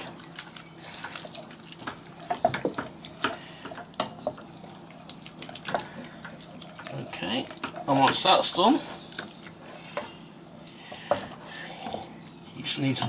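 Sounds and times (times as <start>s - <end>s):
wooden spoon stirring thick sauce: 0.0s - 13.0s.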